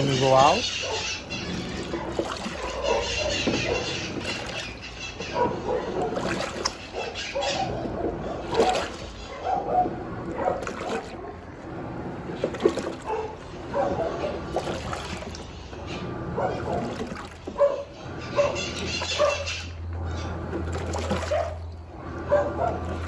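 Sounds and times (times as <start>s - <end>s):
water sloshing in washing machine: 0.0s - 23.0s.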